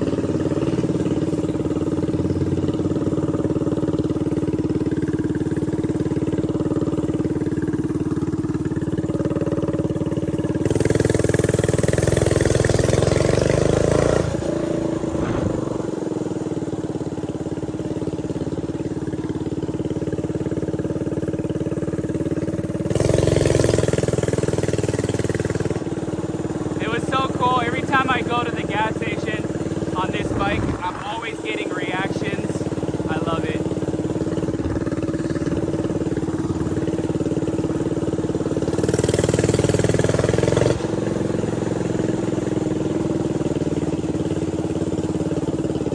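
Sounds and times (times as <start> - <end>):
mini bike engine revving: 0.0 - 45.9.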